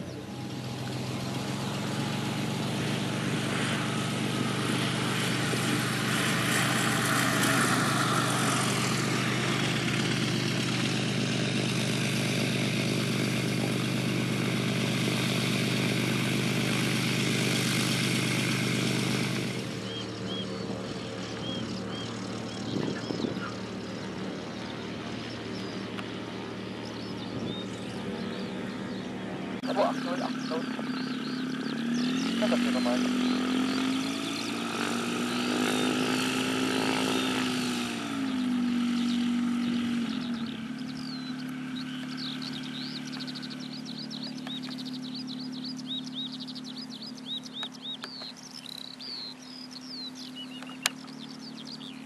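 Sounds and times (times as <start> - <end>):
light aircraft engine droning: 0.0 - 52.0.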